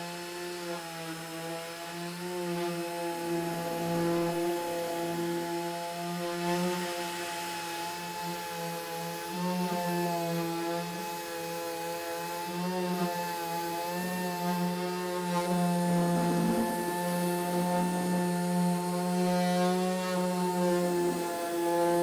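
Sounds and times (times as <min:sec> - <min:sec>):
orbital sander whine: 0:00.1 - 0:22.0.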